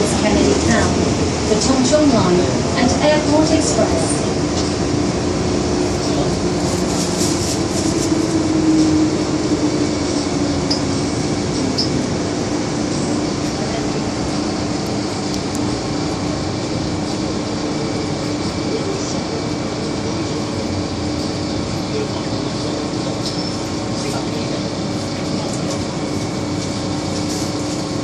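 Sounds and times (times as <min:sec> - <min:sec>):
constant hum: 0:00.0 - 0:28.0
train wheels running on rail: 0:00.0 - 0:28.0.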